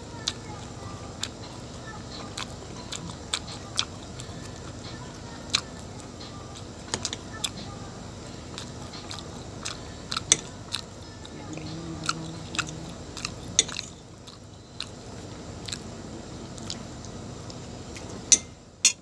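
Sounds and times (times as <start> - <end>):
chewing: 0.1 - 18.2.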